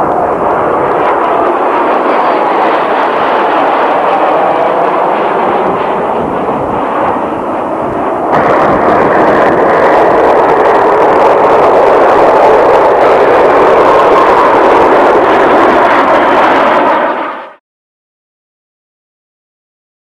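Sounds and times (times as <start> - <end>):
fighter jets roaring past: 0.0 - 17.6.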